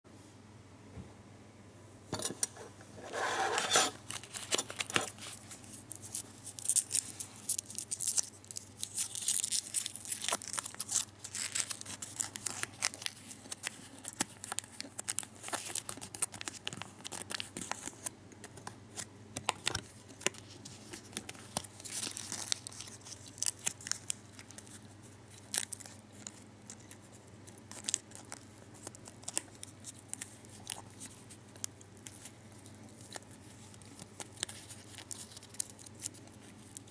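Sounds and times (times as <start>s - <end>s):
foil wrapper crinkling: 3.6s - 36.9s.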